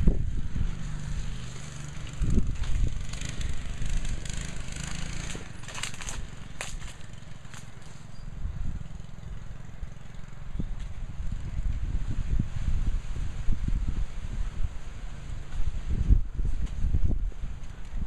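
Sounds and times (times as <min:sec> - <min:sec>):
low rumble on microphone: 0:00.0 - 0:07.2, 0:07.8 - 0:18.0
go-kart engine running: 0:00.0 - 0:17.9.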